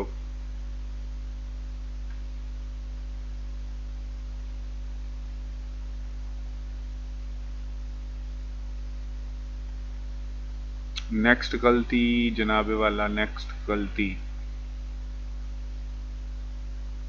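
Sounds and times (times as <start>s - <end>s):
low electrical hum: 0.0s - 17.0s
faint hiss: 1.9s - 17.0s.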